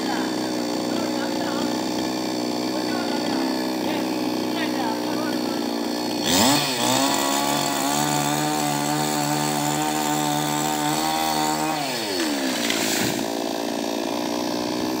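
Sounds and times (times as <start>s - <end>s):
chainsaw revving and idling: 0.0s - 15.0s.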